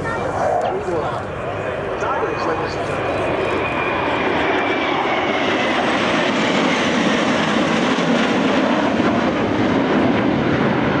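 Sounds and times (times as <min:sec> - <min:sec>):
faint descending jet whine: 0:00.0 - 0:11.0
jet roar overhead: 0:00.0 - 0:11.0.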